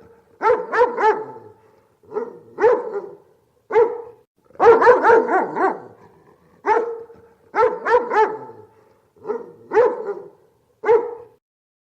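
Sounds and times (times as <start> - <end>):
dog barking: 0.4 - 11.4.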